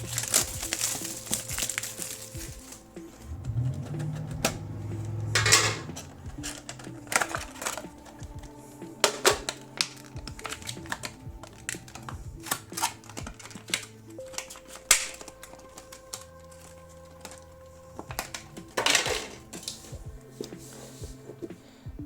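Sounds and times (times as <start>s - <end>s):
plastic rustling: 0.0s - 3.4s, 5.4s - 21.0s
quiet background music: 0.0s - 22.0s.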